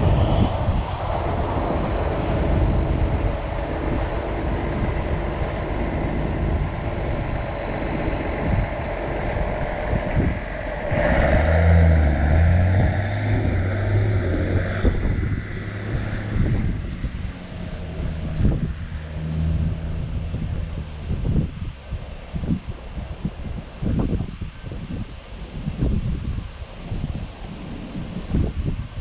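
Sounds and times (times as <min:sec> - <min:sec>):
deep loud drone: 0:00.0 - 0:24.5
engine rumble: 0:00.0 - 0:29.0
wind buffeting microphone: 0:00.0 - 0:29.0.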